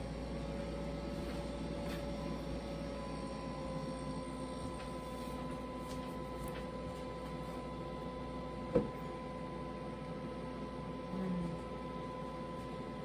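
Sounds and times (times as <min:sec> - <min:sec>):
appliance hum with whine: 0:00.0 - 0:13.0.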